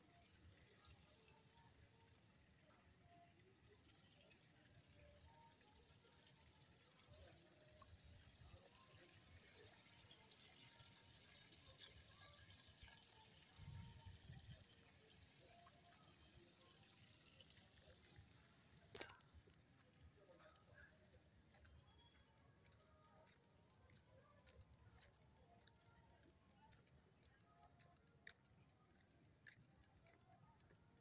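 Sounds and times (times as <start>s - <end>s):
fountain water trickling and splashing: 0.0s - 31.0s.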